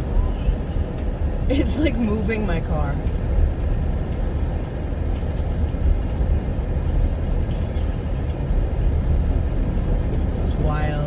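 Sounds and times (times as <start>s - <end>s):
wind buffeting a car: 0.0s - 11.0s.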